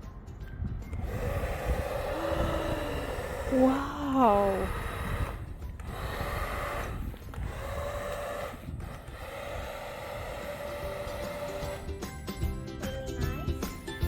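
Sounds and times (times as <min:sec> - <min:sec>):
small fan motor whirring: 0:00.6 - 0:14.0.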